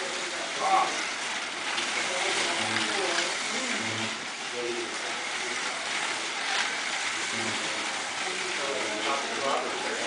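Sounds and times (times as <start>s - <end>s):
quiet voices talking: 0.0s - 10.0s
slot cars whirring on track: 0.0s - 10.0s.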